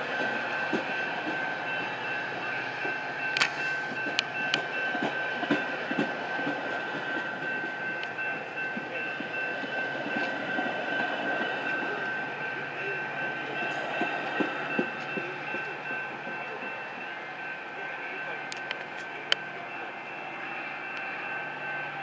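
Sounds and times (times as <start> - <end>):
train wheel clicks: 0.0 - 17.1, 18.4 - 19.6
train cars rolling past: 0.0 - 22.0.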